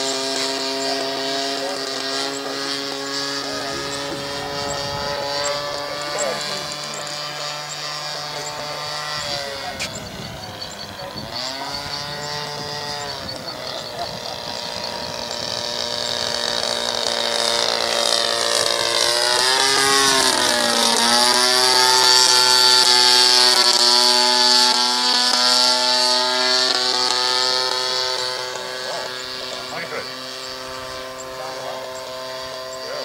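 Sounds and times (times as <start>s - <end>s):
model airplane engine in flight: 0.0s - 33.0s.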